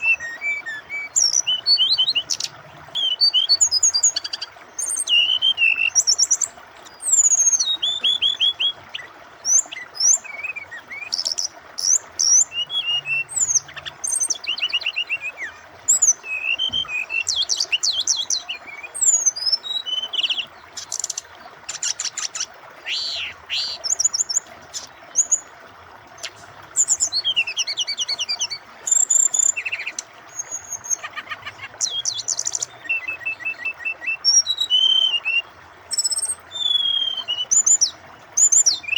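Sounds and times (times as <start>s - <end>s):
bird singing whistled phrases: 0.0s - 6.4s, 7.0s - 21.2s, 21.9s - 24.2s, 26.2s - 38.9s
flowing water: 0.0s - 38.9s.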